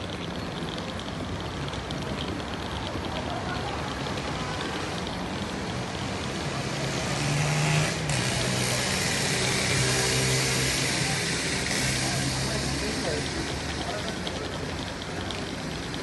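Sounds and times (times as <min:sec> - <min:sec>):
rumble and hiss: 0:00.0 - 0:16.0.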